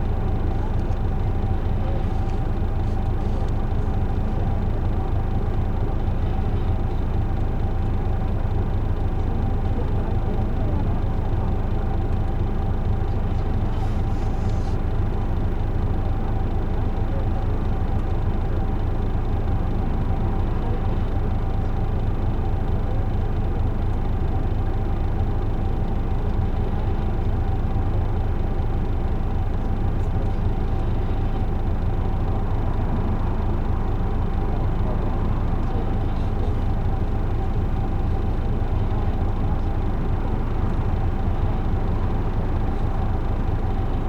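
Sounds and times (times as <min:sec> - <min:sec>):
bus diesel rumble: 0:00.0 - 0:44.0
road noise: 0:00.0 - 0:44.0.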